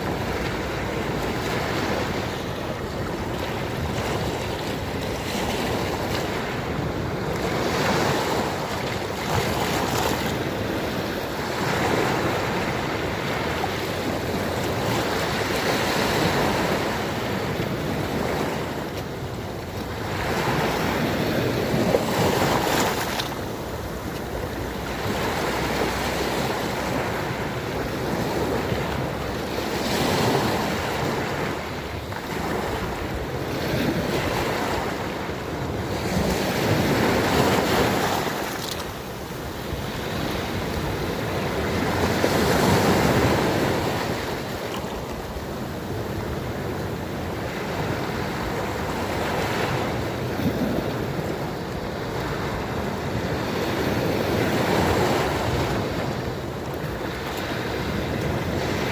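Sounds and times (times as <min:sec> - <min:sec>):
small sea waves breaking: 0:00.0 - 0:58.9.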